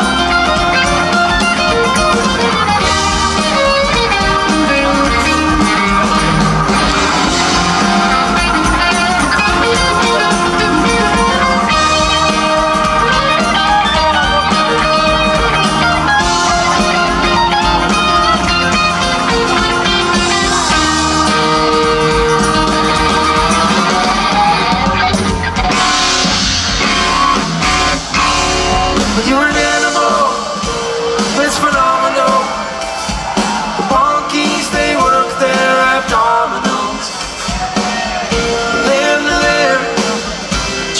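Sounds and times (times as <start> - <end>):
drum kit: 0.0 - 40.9
guitar: 0.0 - 40.9
keyboards: 0.0 - 40.9.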